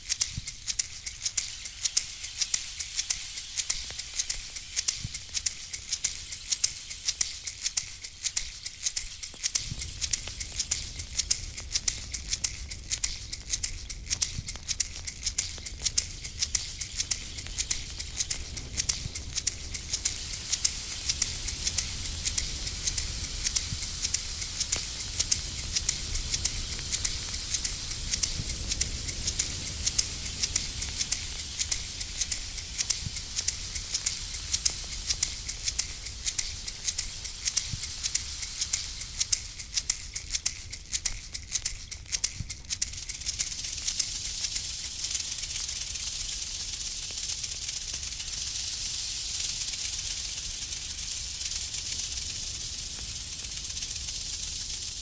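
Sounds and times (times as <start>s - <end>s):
rattle shaken: 0.0s - 55.0s.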